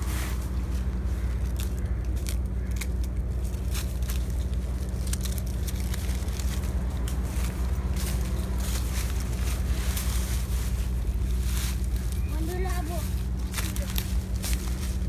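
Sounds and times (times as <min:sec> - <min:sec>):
dry leaves crackling in hand: 0:00.0 - 0:15.0
steady low rumble: 0:00.0 - 0:15.0.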